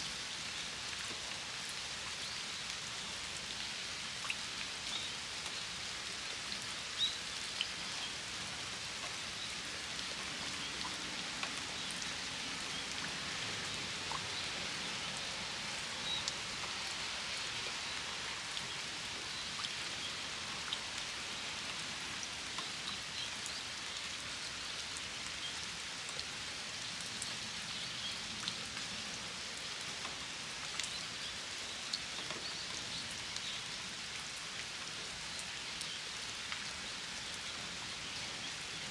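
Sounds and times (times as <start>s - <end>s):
rain falling on water: 0.0s - 38.9s.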